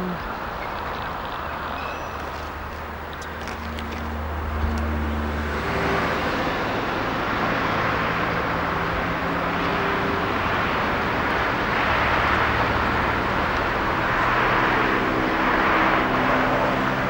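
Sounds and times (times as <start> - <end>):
diesel train engine humming: 0.0 - 17.0.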